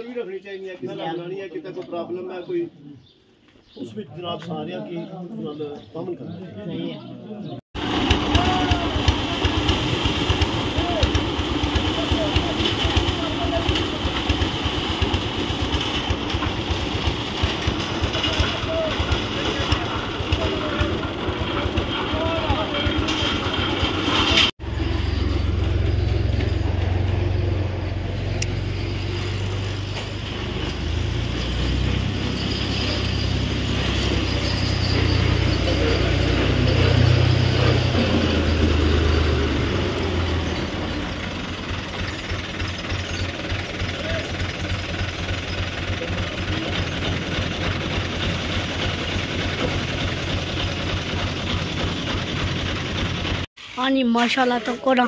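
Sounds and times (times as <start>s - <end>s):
machinery engine humming: 7.8s - 53.5s.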